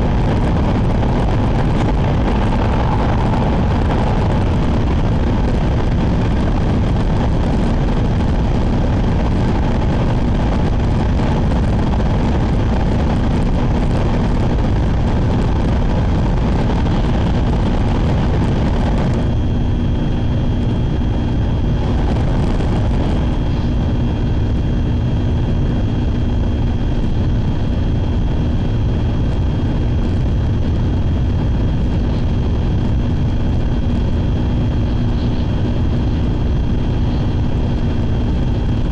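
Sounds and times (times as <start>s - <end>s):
steady hum with high whine: 0.0s - 38.9s
train rumble and rush: 0.0s - 38.9s.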